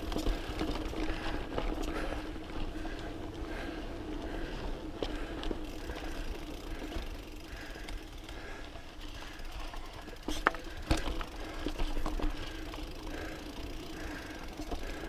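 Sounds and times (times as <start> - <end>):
bike rattling: 0.0 - 15.0
wheels knocking on rocks: 0.0 - 15.0.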